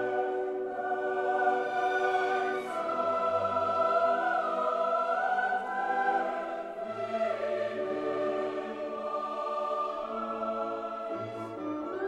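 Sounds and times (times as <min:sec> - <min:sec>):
classical vocal music: 0:00.0 - 0:12.0.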